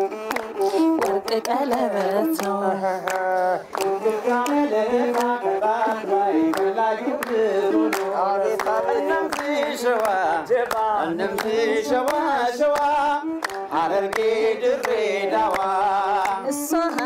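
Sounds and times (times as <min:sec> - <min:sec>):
hand clapping: 0:00.0 - 0:17.0
people singing together: 0:01.6 - 0:17.0.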